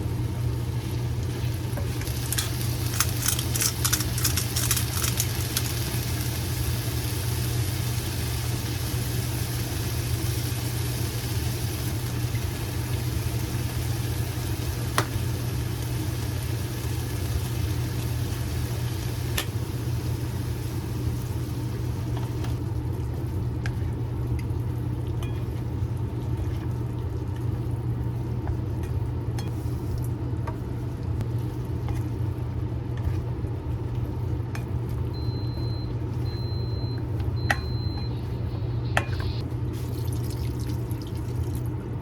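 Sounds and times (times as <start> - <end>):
low machine hum: 0.0 - 42.0.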